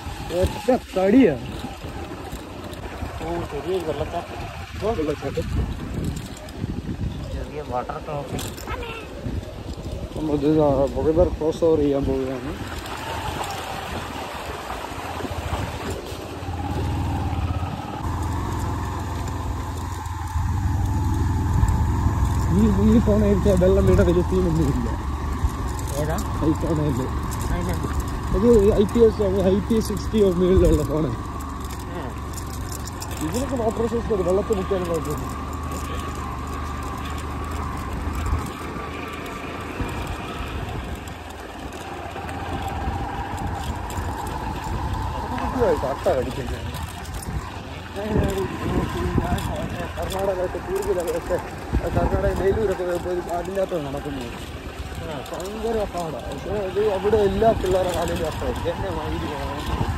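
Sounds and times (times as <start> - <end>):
motorcycle engine revving: 0.0 - 8.7, 9.3 - 59.9.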